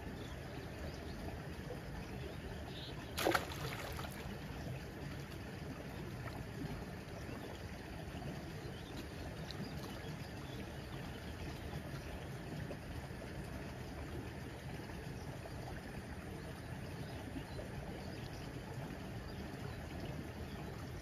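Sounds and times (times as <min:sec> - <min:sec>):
running canal water: 0:00.0 - 0:21.0.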